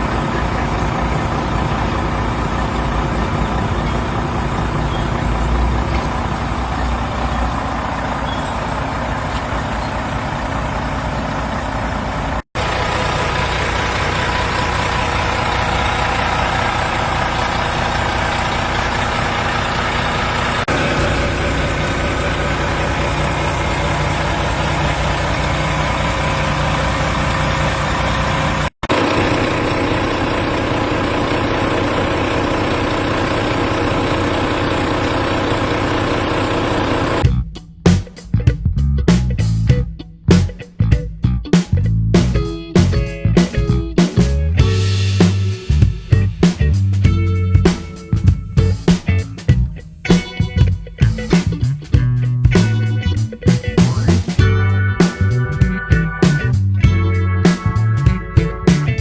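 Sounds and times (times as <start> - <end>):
diesel engine running: 0.0 - 37.4, 41.7 - 59.0.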